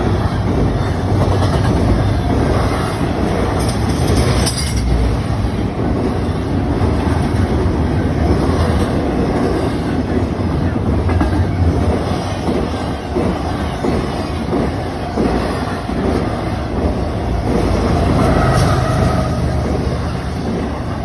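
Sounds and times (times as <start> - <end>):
freight train rumbling past: 0.0 - 21.0
wheels clattering on rail joints: 0.0 - 21.0.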